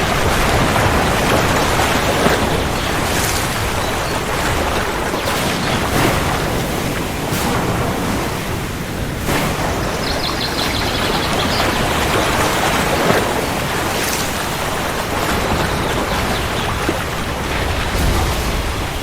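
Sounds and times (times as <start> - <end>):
distant thunder rumble: 0.0 - 19.0
heavy rain: 0.0 - 19.0.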